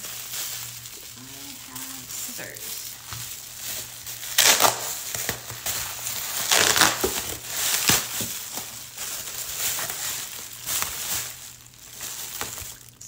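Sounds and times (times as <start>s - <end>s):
foil packaging crinkling: 0.0s - 13.0s.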